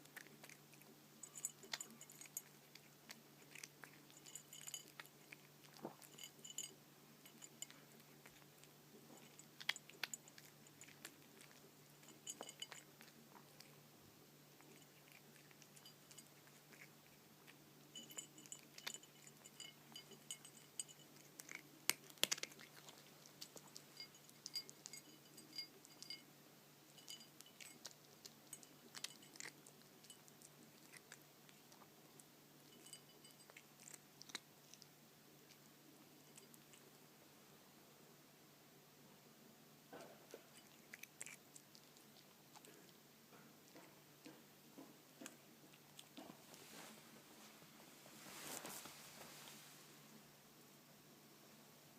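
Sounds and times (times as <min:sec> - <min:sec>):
cat crunching dry kibble: 0:00.0 - 0:13.9, 0:14.5 - 0:26.2, 0:26.8 - 0:37.0, 0:40.0 - 0:46.6.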